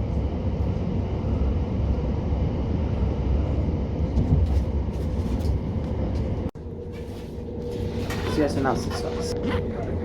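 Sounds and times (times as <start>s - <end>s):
train rumbling from inside carriage: 0.0s - 10.0s.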